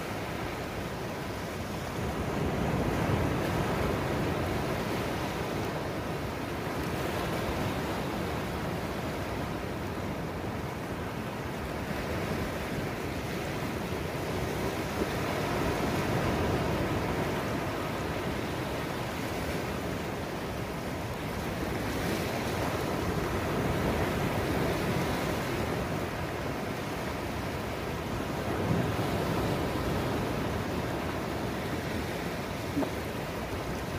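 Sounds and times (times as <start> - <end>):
surf washing up a beach: 0.0 - 33.9.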